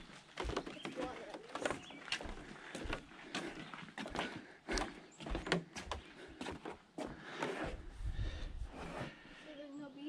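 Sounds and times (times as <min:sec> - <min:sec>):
footsteps on path: 0:00.0 - 0:08.2.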